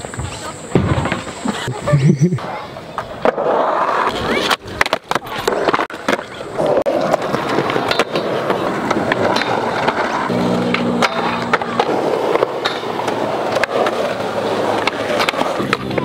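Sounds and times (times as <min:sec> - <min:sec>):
skateboard wheels rolling on concrete: 0:00.0 - 0:16.0
skateboards clacking on ground: 0:00.0 - 0:16.0.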